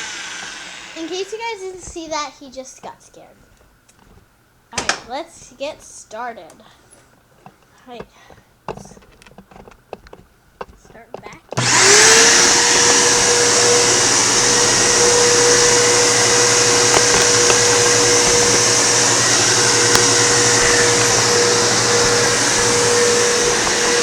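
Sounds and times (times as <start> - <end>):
vacuum cleaner running: 0.0 - 2.2, 2.8 - 4.2, 4.8 - 5.8, 7.4 - 24.0.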